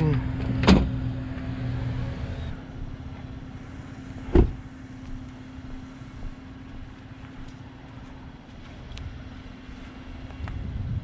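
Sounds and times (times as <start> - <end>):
pickup truck idling: 0.0 - 10.9.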